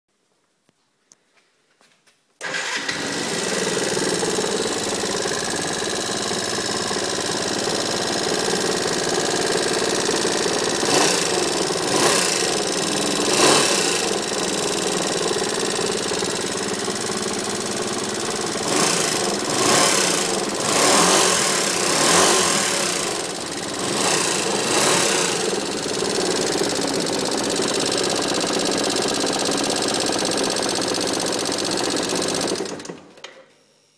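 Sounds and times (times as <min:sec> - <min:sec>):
scooter engine idling: 0:02.4 - 0:33.2.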